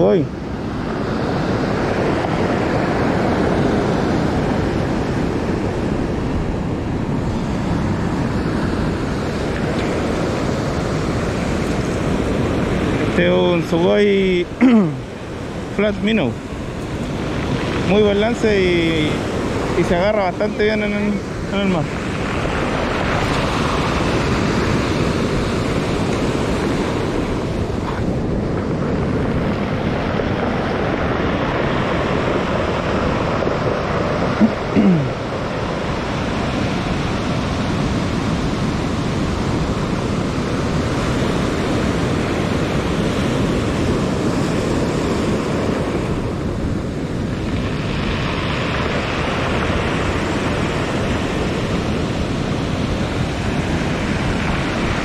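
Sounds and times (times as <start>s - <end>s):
surf washing up pebbly shore: 0.0s - 55.0s
wind buffeting microphone: 0.0s - 55.0s.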